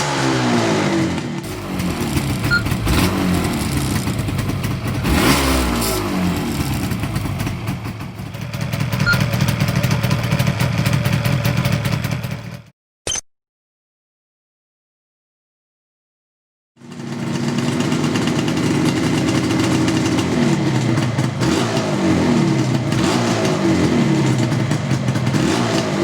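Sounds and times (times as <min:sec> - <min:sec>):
two-stroke motorcycle engine revving: 0:00.0 - 0:12.7, 0:16.8 - 0:26.0.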